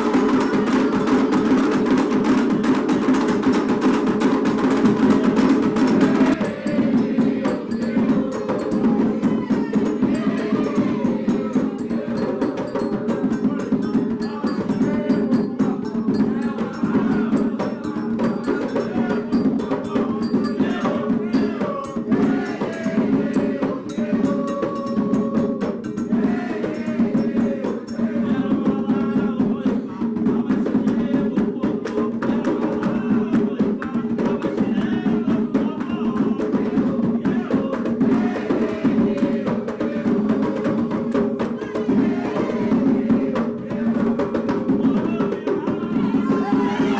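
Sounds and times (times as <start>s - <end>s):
bell-like percussion: 0.0s - 46.9s
hand drums playing: 0.0s - 46.9s
voices singing: 0.0s - 46.9s.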